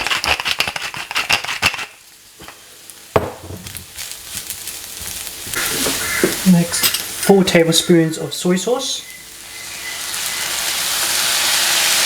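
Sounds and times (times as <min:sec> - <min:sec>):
fried rice sizzling in a pan: 0:00.0 - 0:12.0.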